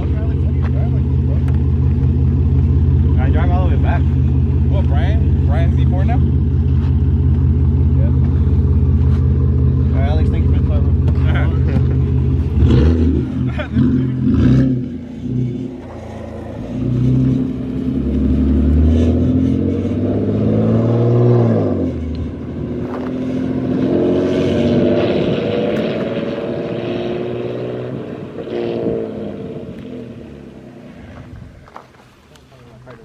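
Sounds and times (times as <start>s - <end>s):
straight-piped car engine revving: 0.0s - 30.8s.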